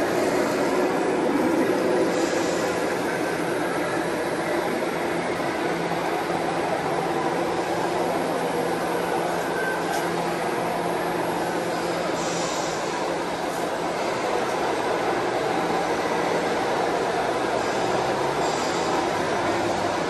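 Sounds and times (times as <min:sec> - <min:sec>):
busy hall drone: 0:00.0 - 0:20.0.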